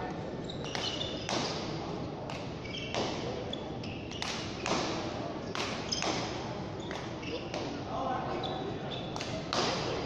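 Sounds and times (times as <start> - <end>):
murmur of spectators: 0.0 - 10.0
shoes squeaking on court: 0.4 - 4.9, 5.5 - 9.4.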